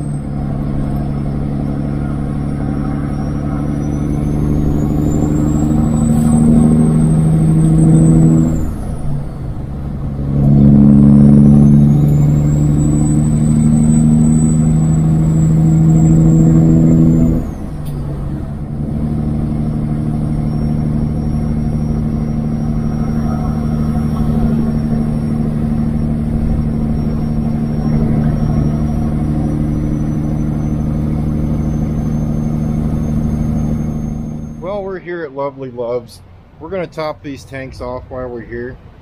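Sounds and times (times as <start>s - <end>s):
high turbo whistle: 0.0s - 34.9s
truck diesel engine pulling hard: 0.0s - 39.0s.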